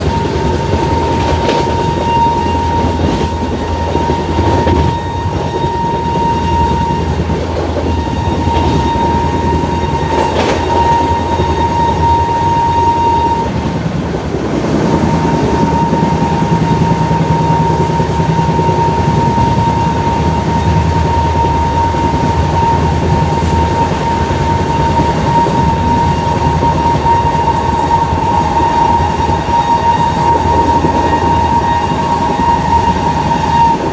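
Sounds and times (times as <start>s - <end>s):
shrill locomotive horn: 0.0s - 33.9s
train rumbling on track: 0.0s - 33.9s.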